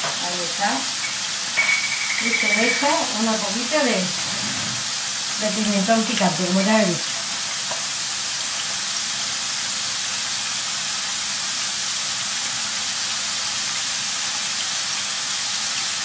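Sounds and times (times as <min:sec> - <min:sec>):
potatoes deep-frying in oil: 0:00.0 - 0:16.0.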